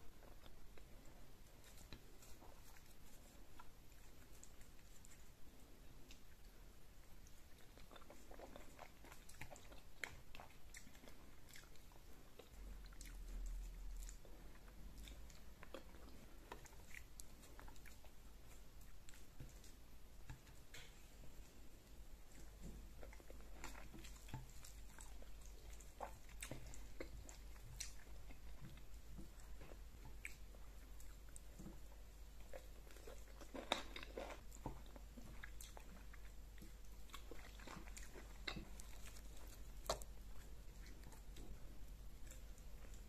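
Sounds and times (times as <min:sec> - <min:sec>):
soft chewing: 0:00.0 - 0:43.0.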